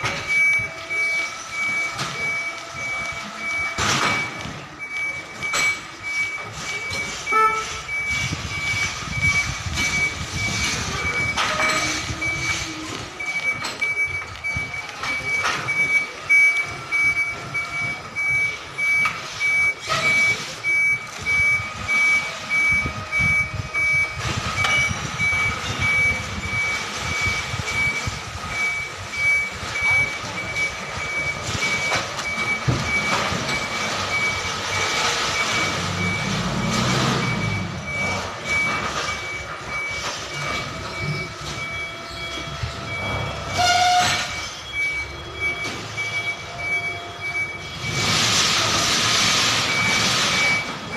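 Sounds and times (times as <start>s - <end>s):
reversing alarm beeps: 0.0s - 50.9s
truck engine rumble: 0.0s - 50.9s.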